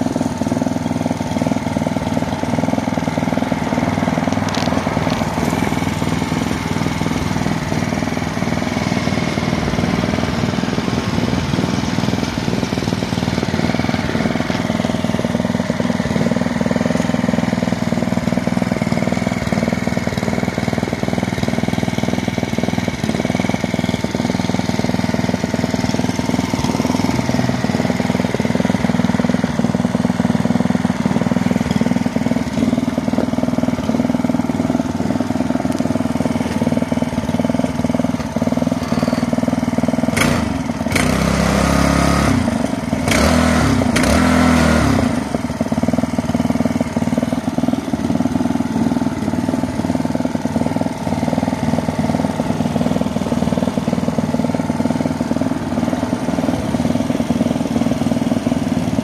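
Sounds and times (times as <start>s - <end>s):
engine knocks: 0.0s - 59.0s
small tiller engine idling: 0.0s - 59.0s.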